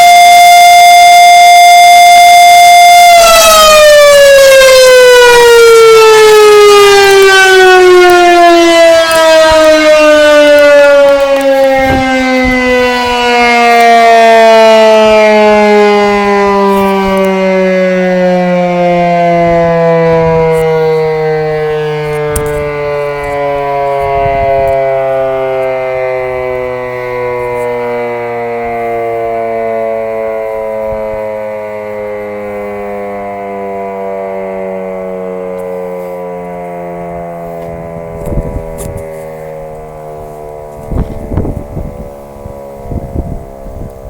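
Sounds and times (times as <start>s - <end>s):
electromechanical siren winding down: 0.0s - 44.0s.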